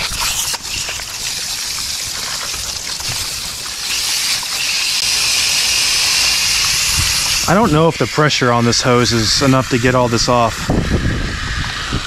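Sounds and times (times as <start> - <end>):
hose spray hissing on metal coil: 0.0 - 10.8.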